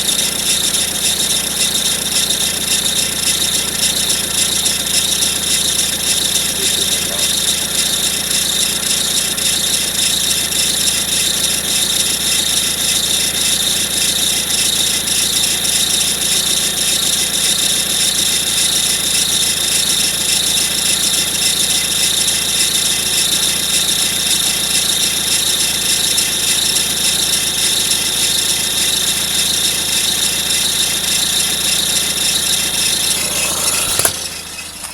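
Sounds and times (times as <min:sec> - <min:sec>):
car engine idling: 0:00.0 - 0:34.9
high-pitched engine whine: 0:00.0 - 0:34.9.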